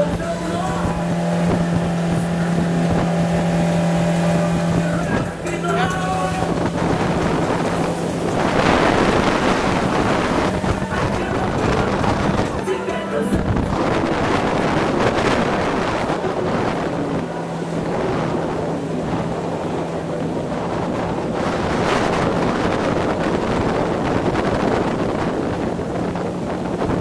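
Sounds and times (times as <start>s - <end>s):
motorboat engine drone: 0.0s - 27.0s
water rushing along hull: 0.0s - 27.0s
wind buffeting microphone: 0.0s - 27.0s.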